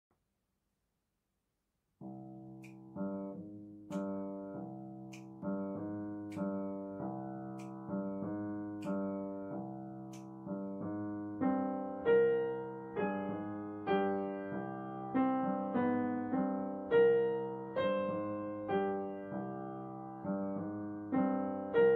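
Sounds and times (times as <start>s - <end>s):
upright piano playing chords: 2.0s - 21.9s.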